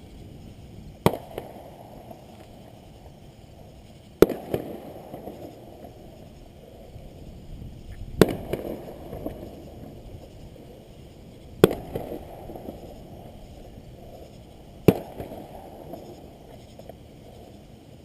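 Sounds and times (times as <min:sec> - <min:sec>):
fireworks bangs: 0:00.0 - 0:16.9
small fireworks pops: 0:00.0 - 0:18.0.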